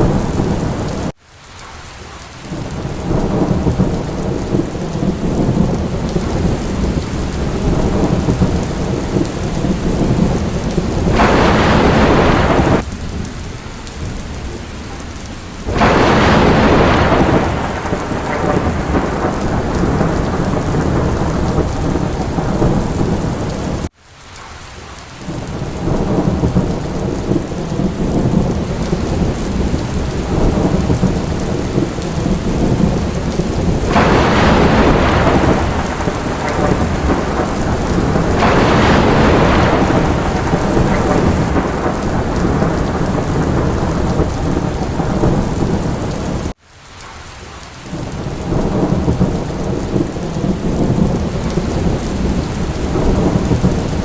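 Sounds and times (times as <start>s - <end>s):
thunder rumble: 0.0s - 1.1s, 2.5s - 23.9s, 25.3s - 46.6s, 47.9s - 54.0s
heavy rain: 0.0s - 54.0s.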